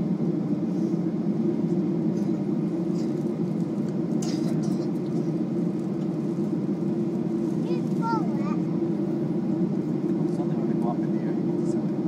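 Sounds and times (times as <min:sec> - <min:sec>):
jet engines and cabin noise: 0:00.0 - 0:12.0.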